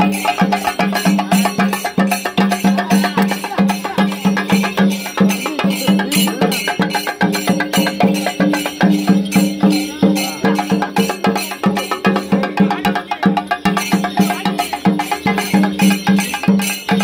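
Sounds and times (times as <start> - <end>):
brass cymbals clashing: 0.0 - 17.0
drums in quick rhythm: 0.0 - 17.0.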